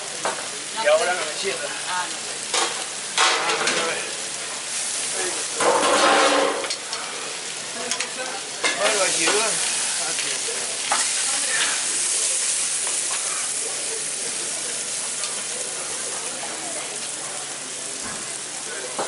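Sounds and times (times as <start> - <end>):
meat sizzling on a griddle: 0.0 - 19.0.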